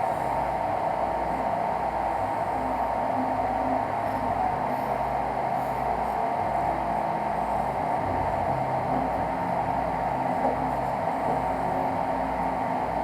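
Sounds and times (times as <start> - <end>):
fan hiss: 0.0 - 13.0.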